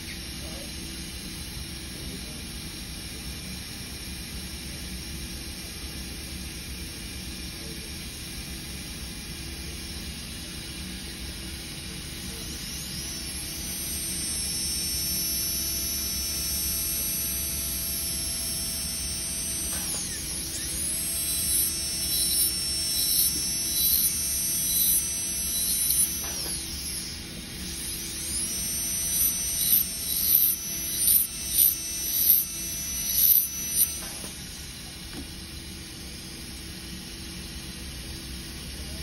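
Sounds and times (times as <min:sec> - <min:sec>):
dental drill high whine: 0:00.0 - 0:39.0.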